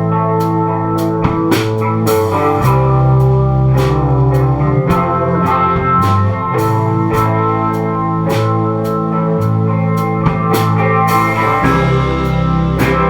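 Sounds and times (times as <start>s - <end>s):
bass: 0.0s - 13.0s
electric guitar chords: 0.0s - 13.0s
drum and cymbal hits: 1.2s - 9.0s, 10.1s - 13.0s.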